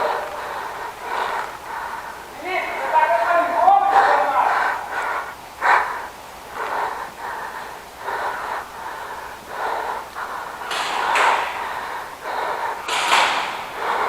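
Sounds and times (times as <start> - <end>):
heavy close breathing: 0.0 - 2.9, 3.6 - 14.0.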